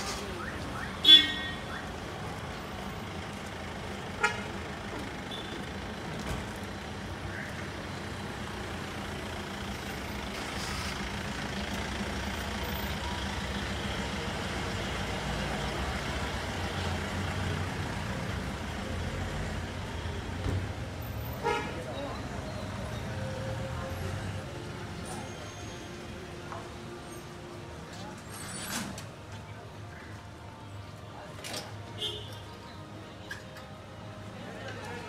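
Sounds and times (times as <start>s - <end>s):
vehicle engines running: 0.0s - 31.8s.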